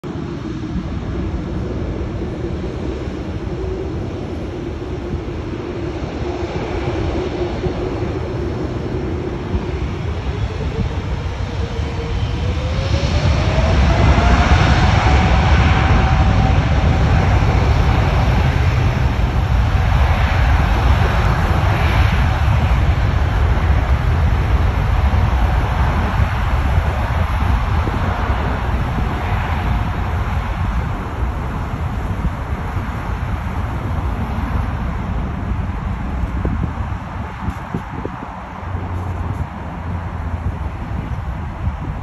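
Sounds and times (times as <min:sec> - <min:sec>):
jet engines whining: 0:00.0 - 0:42.0
low jet engine rumble: 0:00.0 - 0:42.0.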